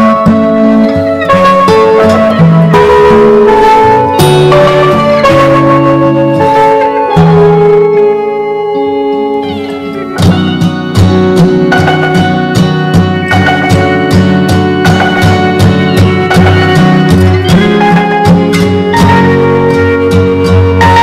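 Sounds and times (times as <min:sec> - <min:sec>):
background music with drum beat: 0:00.0 - 0:08.1, 0:09.4 - 0:21.0.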